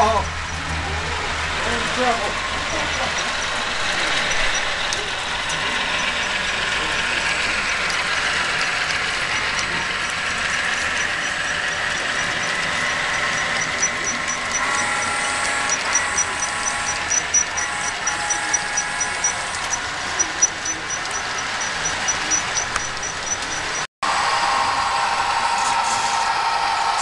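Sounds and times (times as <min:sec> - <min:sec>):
train wheels clicking over rail joints: 0:00.0 - 0:23.8
model train running: 0:00.0 - 0:27.0.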